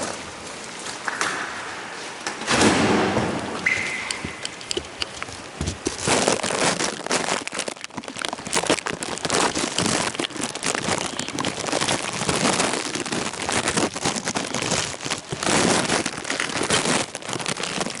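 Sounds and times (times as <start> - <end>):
sharp raindrop impacts: 2.3 - 18.0
heavy rain falling: 2.5 - 18.0.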